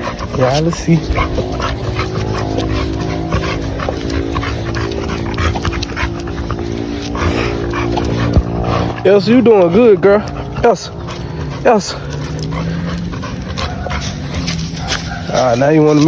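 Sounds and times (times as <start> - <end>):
dog vocalizing: 0.0 - 16.0.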